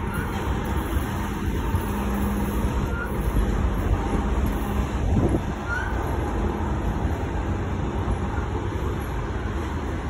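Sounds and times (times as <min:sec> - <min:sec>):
train coaches rolling on track: 0:00.0 - 0:10.0.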